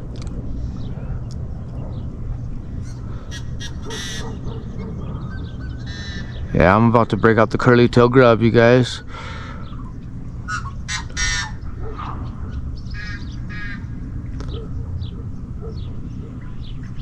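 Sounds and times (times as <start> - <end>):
birds calling: 0.0 - 17.0
steady low rumble: 0.0 - 17.0.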